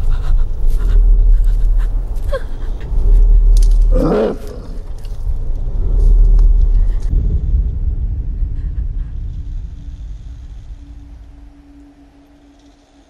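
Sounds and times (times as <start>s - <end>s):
deep low rumbling drone: 0.0s - 13.0s.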